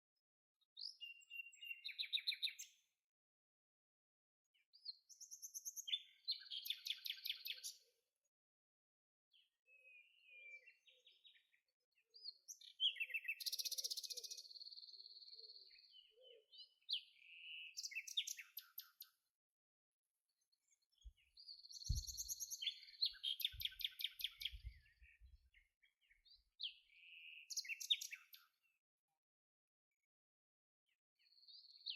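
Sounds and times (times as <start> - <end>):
songbird chirps and trills: 0.6 - 3.0, 4.4 - 8.1, 9.3 - 19.3, 20.1 - 28.8, 30.9 - 31.9.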